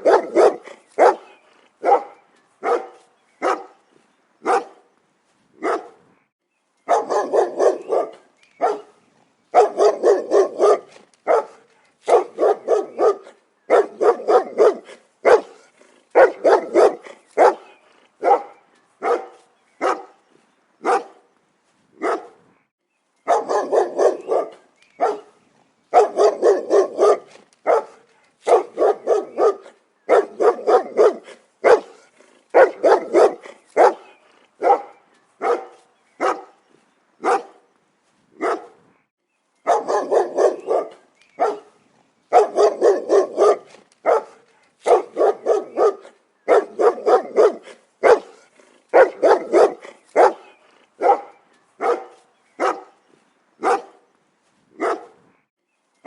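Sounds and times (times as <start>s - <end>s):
dog barking: 0.0s - 3.8s, 4.4s - 4.8s, 5.6s - 6.0s, 6.9s - 20.2s, 20.8s - 21.3s, 22.0s - 22.4s, 23.3s - 36.6s, 37.2s - 37.6s, 38.4s - 38.8s, 39.6s - 53.0s, 53.6s - 54.1s, 54.8s - 55.2s.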